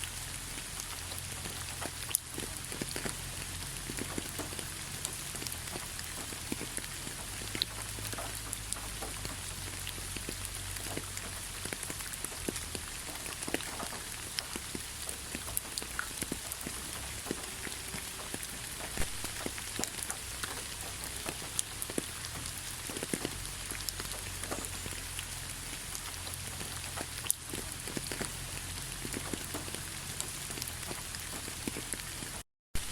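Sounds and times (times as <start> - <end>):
raindrops ticking on a surface: 0.0 - 32.9
steady rainfall: 0.0 - 32.9.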